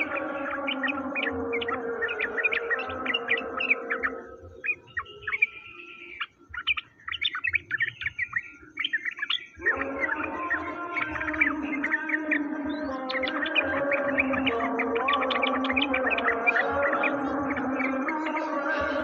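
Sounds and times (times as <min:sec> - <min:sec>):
high bird chirps and tweets: 0:00.0 - 0:19.0.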